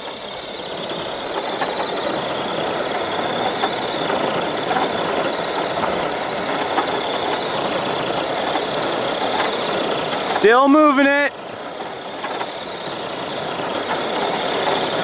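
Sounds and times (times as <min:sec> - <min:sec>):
electric toy truck motors straining: 0:00.0 - 0:15.0
tires churning dirt: 0:00.0 - 0:15.0.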